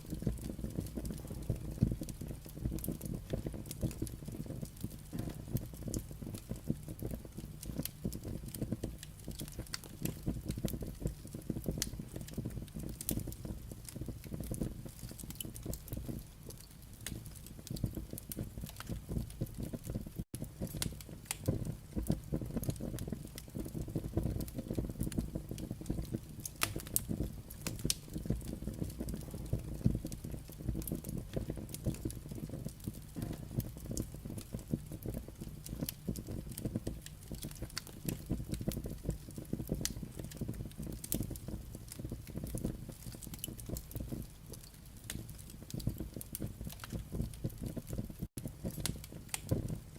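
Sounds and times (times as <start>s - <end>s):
firewood crackling and popping: 0.0s - 49.9s
low rumble of fire: 0.0s - 49.9s.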